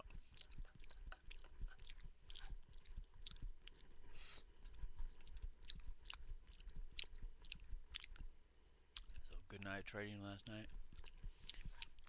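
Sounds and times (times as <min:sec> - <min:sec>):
person chewing: 0:00.0 - 0:12.0
small mouth clicks: 0:00.0 - 0:12.0.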